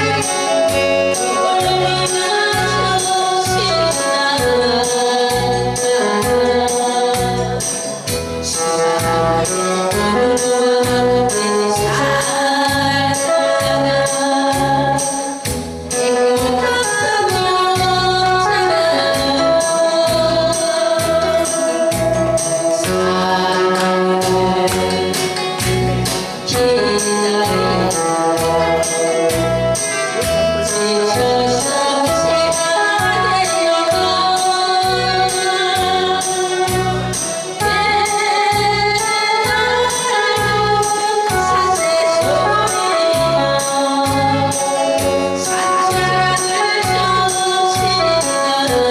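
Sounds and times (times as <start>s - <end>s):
backing music with drum beat: 0.0s - 48.9s
woman singing through microphone: 0.0s - 48.9s.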